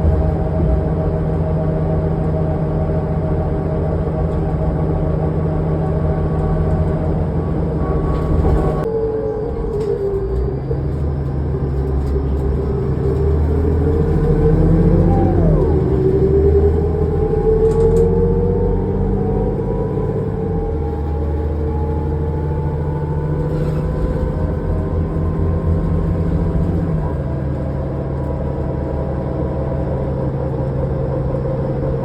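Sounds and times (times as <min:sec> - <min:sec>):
bus diesel engine whining: 0:00.0 - 0:32.0.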